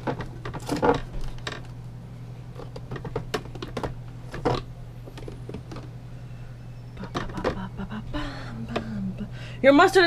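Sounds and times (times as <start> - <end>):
refrigerator low hum: 0.0 - 10.0.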